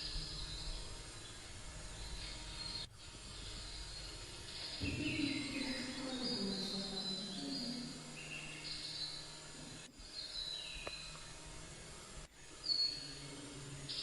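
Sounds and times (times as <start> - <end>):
insects trilling: 0.0 - 14.0
low steady hum: 0.0 - 14.0.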